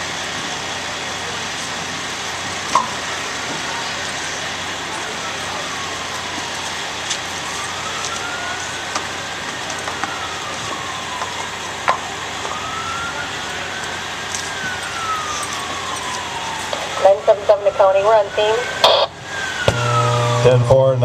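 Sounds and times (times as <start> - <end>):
emergency siren wailing: 0.0 - 21.0.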